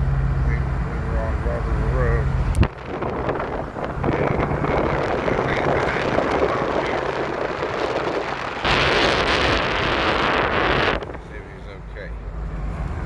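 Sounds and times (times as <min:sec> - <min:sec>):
car road noise: 0:00.0 - 0:13.0
wind rushing on microphone: 0:00.7 - 0:11.8.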